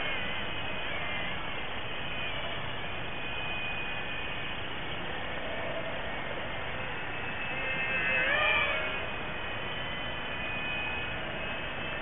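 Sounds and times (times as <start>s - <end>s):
thin motor whine: 0.0s - 12.0s.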